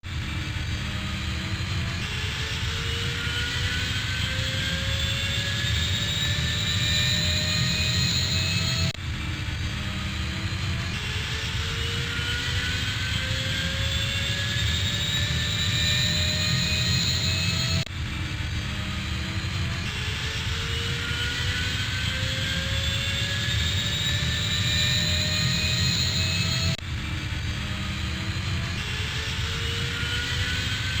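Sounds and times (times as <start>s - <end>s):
airplane flying overhead: 0.0s - 31.0s.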